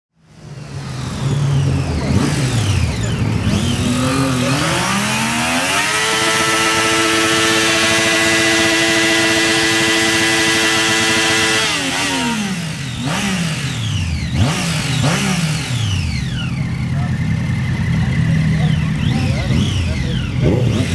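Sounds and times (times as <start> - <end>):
motorcycle engine revving: 0.2 - 20.9.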